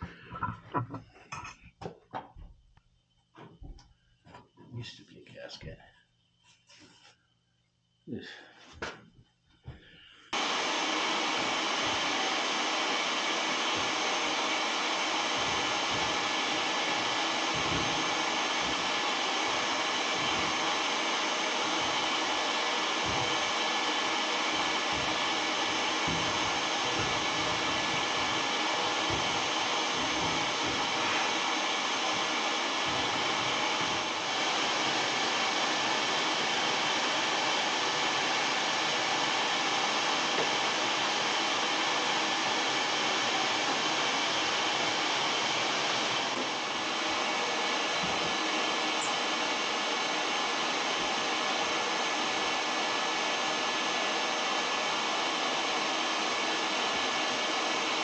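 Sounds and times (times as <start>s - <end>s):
vacuum cleaner running: 0.0s - 0.9s, 9.7s - 58.0s.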